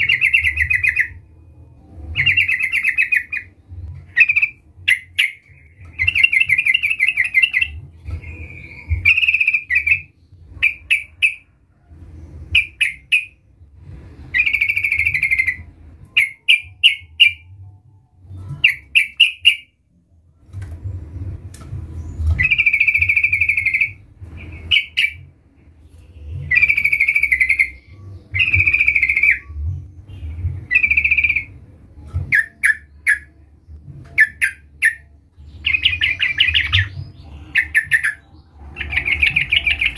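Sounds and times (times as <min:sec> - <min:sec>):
low rumble: 0:00.0 - 0:19.0, 0:19.7 - 0:39.9.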